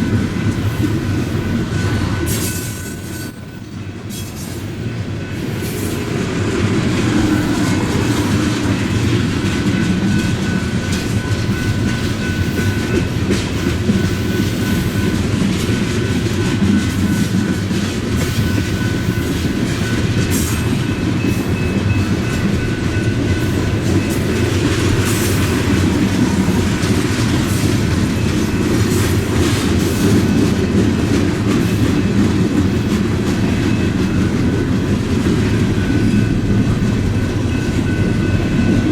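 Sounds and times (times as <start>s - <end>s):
freight train rumbling: 0.0s - 38.9s.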